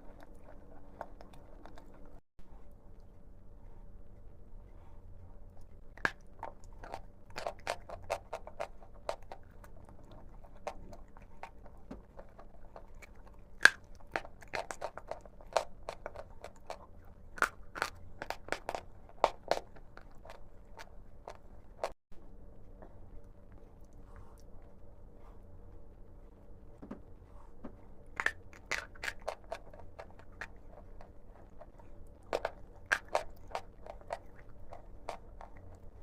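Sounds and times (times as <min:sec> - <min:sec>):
chalk being bitten and chewed: 0:00.0 - 0:03.2, 0:04.7 - 0:22.0, 0:27.3 - 0:36.0.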